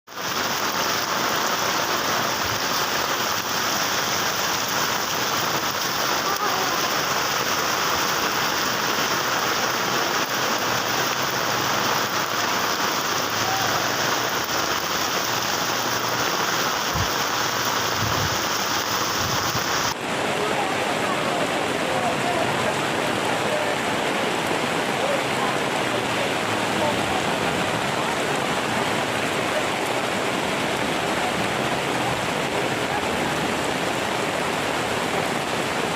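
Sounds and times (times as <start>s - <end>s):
heavy rain falling: 0.1s - 35.9s.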